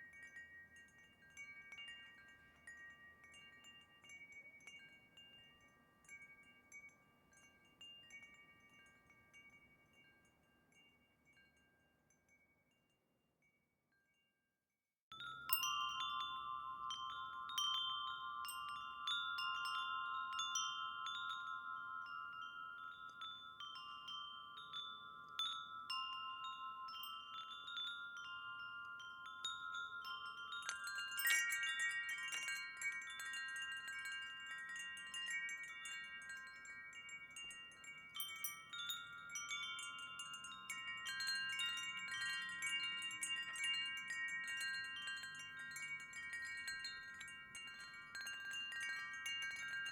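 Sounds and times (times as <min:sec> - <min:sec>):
wind chimes ringing: 0:00.0 - 0:14.2, 0:15.1 - 0:49.9.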